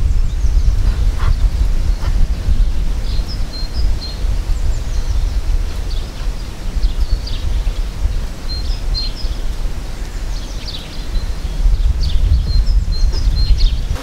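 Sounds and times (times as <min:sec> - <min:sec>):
small birds chirping: 0:00.0 - 0:14.0
wind rumbling on microphone: 0:00.0 - 0:14.0.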